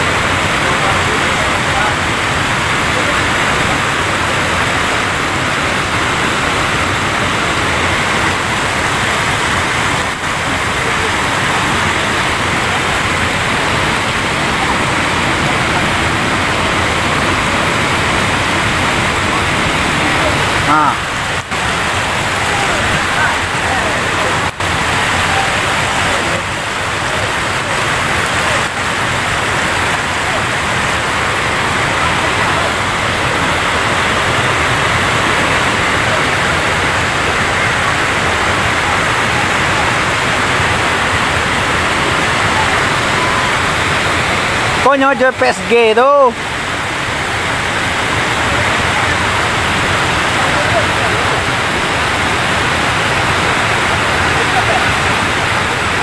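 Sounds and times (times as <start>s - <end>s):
water rushing over weir: 0.0s - 56.0s.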